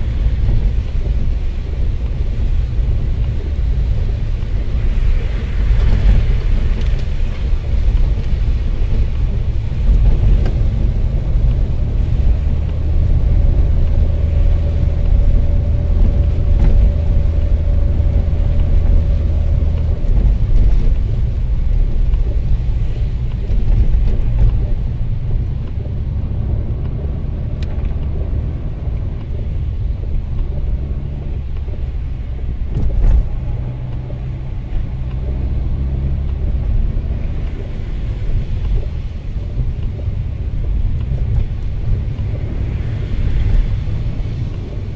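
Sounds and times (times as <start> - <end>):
car engine and tyres rumble: 0.0 - 44.9.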